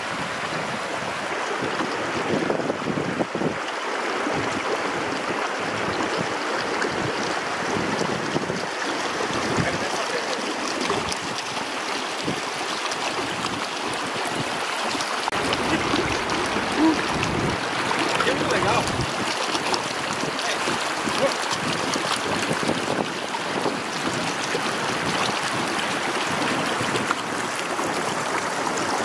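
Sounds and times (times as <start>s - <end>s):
river rushing over rocks: 0.0s - 29.0s.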